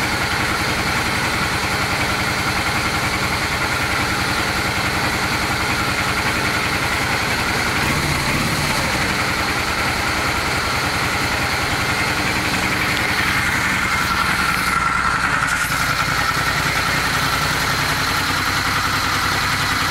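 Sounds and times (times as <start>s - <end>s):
motorcycle engine idling with knock: 0.0s - 19.9s.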